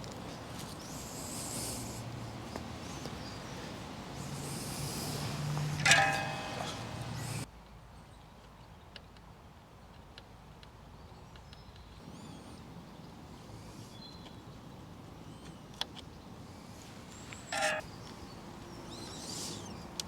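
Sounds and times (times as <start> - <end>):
faint bird chirps: 0.3 - 8.8, 11.0 - 20.0.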